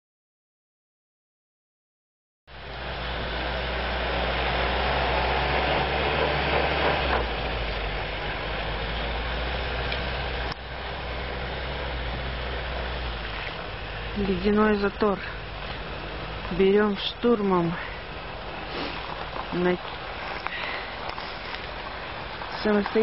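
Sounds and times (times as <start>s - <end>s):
off-road vehicle engine revving: 2.6s - 23.0s
wheels spinning on ice: 2.6s - 23.0s.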